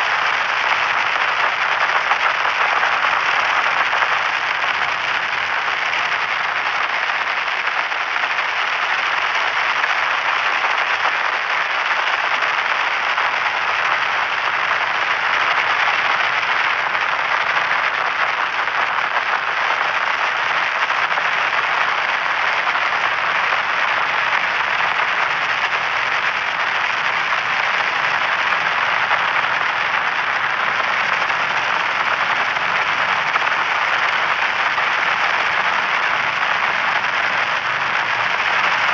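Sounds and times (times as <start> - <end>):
radio static crackling: 0.0 - 38.9.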